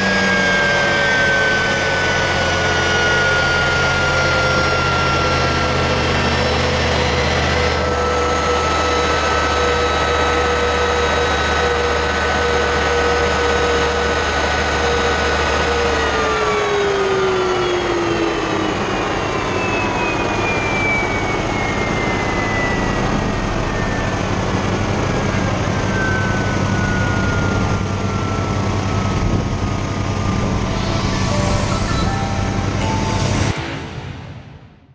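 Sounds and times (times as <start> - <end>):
turbojet engine spooling down: 0.0 - 13.9, 14.6 - 34.9.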